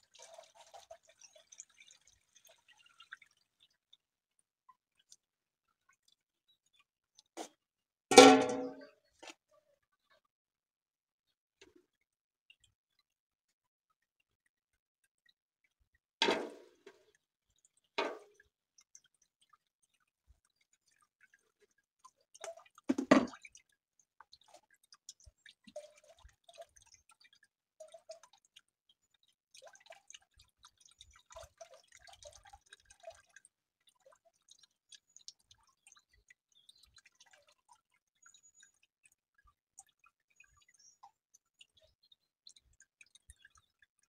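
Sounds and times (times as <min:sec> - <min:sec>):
liquid dripping: 0:00.0 - 0:09.4, 0:14.0 - 0:44.0.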